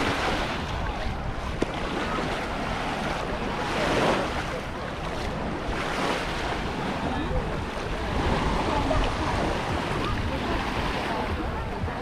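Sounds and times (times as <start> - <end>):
small waves washing ashore: 0.0 - 12.0
wind buffeting microphone: 0.0 - 12.0.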